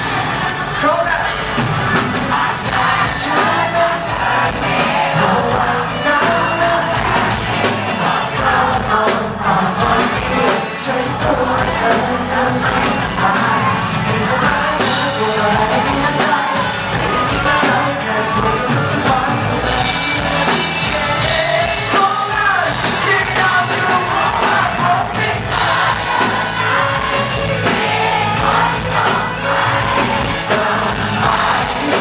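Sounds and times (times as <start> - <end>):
drums: 0.0 - 32.0
guitars: 0.0 - 32.0
person singing: 2.0 - 32.0.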